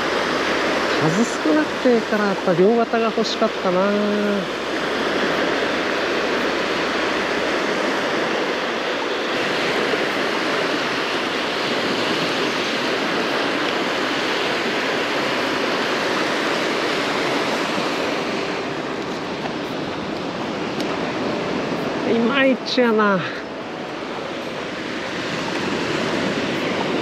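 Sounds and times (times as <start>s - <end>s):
small waves washing onto beach: 0.0s - 27.0s.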